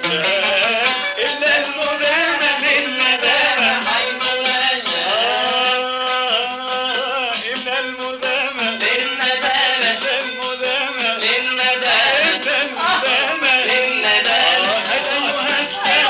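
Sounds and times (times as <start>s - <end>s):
man singing melismatic line: 0.0s - 16.0s.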